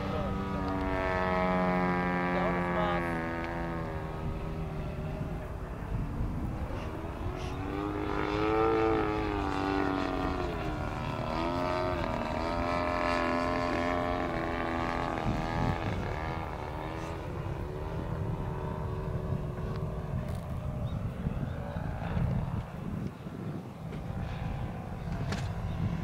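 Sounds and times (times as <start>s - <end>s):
model plane engine in flight: 0.0s - 26.0s.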